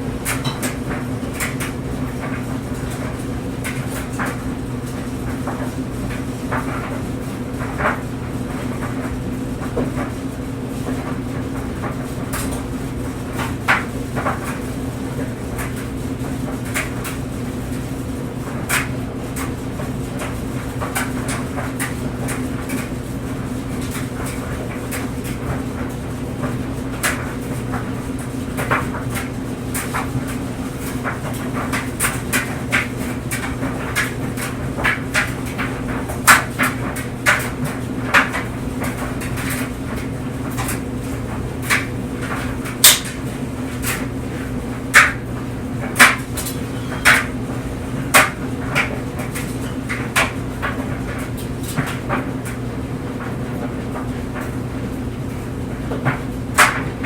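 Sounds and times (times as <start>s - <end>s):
clothes dryer motor hum: 0.0s - 57.0s.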